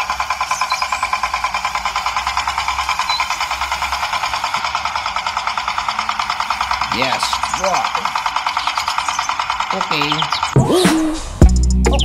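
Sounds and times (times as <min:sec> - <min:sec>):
mini tractor engine chugging: 0:00.0 - 0:10.6.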